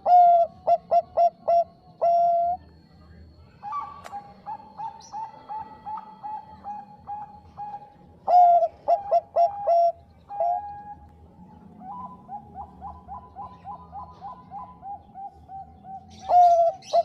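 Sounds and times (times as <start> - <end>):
dove cooing: 0.0 - 2.8, 3.6 - 17.0.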